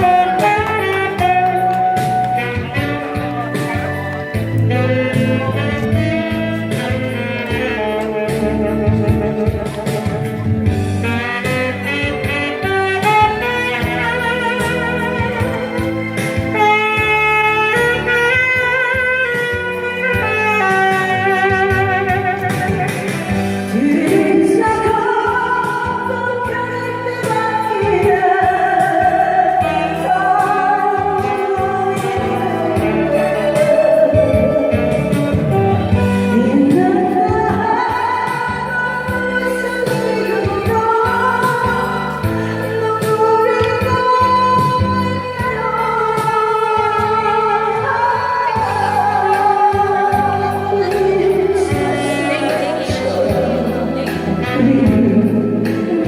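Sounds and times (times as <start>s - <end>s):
backing music: 0.0s - 56.0s
instrumental accompaniment with bass: 0.0s - 56.0s
woman singing a ballad: 0.0s - 56.0s.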